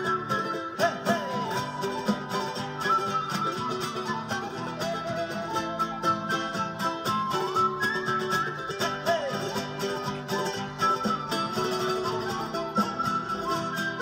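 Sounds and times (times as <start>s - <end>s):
end-blown flute melody: 0.0s - 14.0s
strummed charango and guitar: 0.0s - 14.0s.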